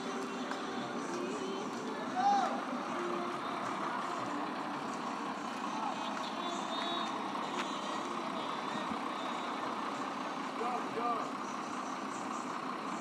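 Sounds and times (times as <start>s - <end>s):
busy harbour din: 0.0s - 13.0s
distant motor noise: 0.0s - 13.0s.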